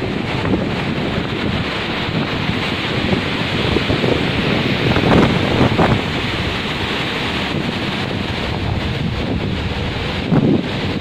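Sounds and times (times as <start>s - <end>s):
waves washing across deck: 0.0s - 11.0s
wind buffeting microphone: 0.0s - 11.0s.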